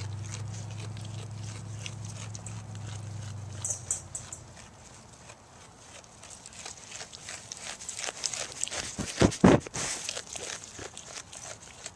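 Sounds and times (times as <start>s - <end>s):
low steady hum: 0.0s - 11.7s
goat chewing leaves: 0.0s - 11.9s.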